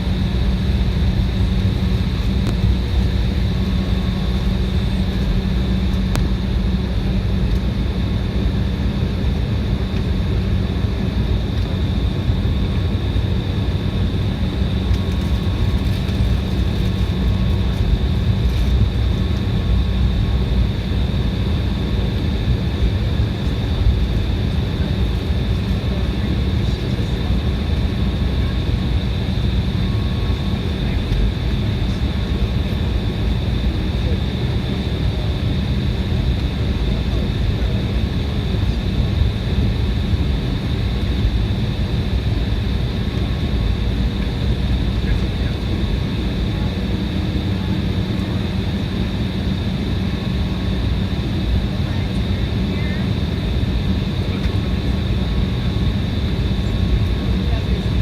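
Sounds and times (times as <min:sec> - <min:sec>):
aircraft engine rumble: 0:00.0 - 0:58.0
constant high whine: 0:00.0 - 0:58.0.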